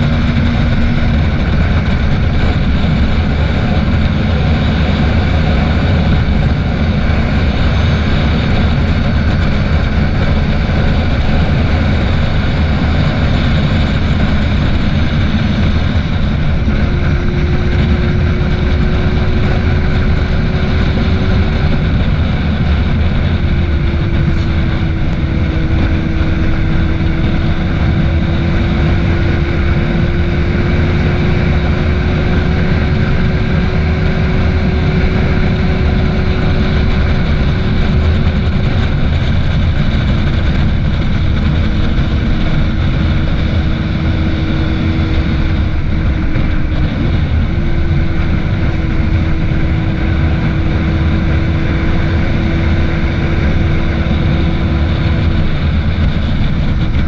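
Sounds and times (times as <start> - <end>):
heavy wind rush: 0.0 - 57.0
motorcycle engine cruising: 0.0 - 57.0.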